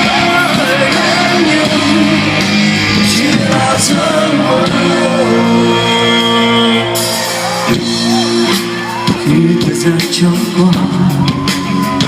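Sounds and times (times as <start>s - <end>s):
electric guitar lead lines: 0.0s - 12.0s
live rock band playing: 0.0s - 12.0s.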